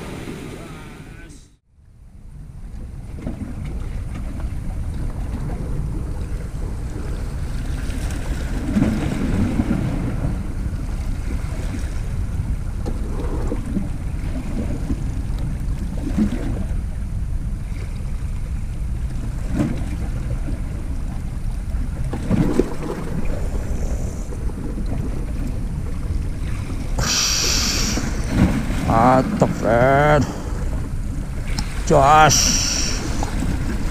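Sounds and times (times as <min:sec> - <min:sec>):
wind rumbling on microphone: 0:01.9 - 0:33.9
waves lapping against rocks: 0:02.8 - 0:33.9.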